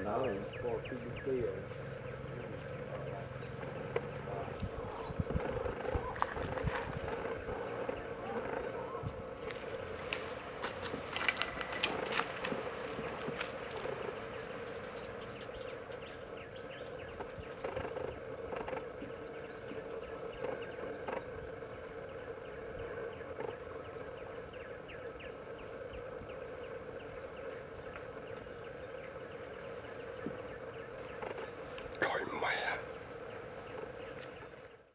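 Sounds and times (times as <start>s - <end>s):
insect-like drone: 0.0s - 34.9s.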